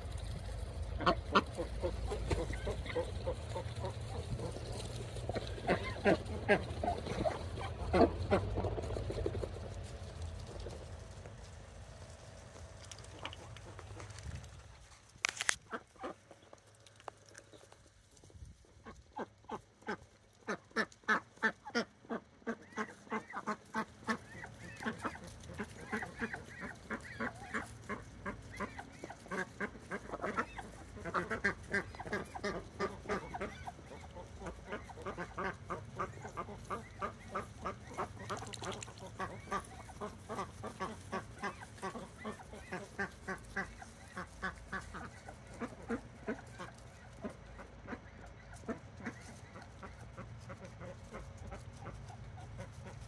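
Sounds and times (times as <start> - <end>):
ducks quacking: 0.0 - 53.0.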